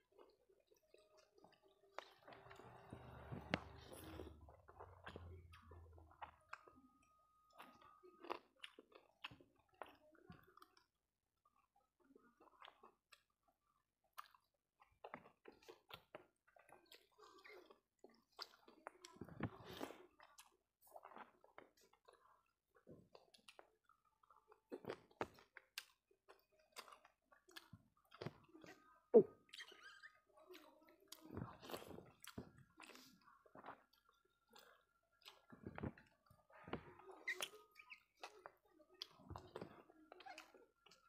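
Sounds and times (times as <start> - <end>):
wet chewing and lip smacks: 3.5 - 6.8, 7.5 - 41.0.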